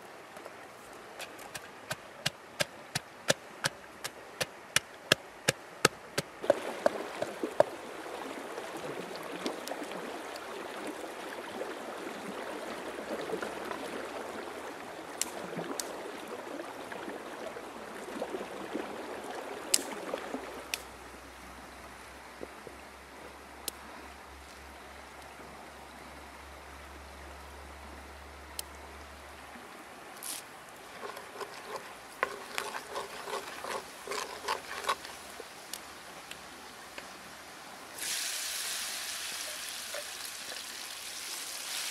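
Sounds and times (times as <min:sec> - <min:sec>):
water trickling and splashing: 0:00.0 - 0:25.2, 0:28.6 - 0:41.9.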